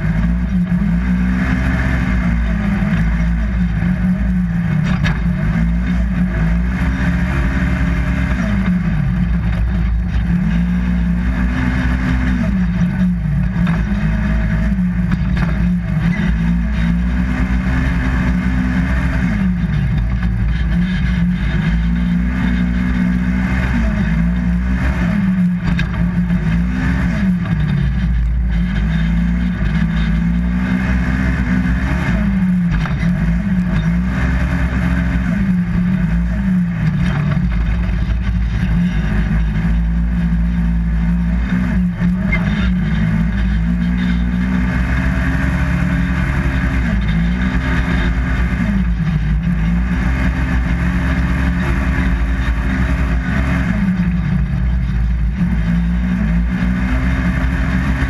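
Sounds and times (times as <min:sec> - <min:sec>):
engine revving hard: 0:00.0 - 0:58.0.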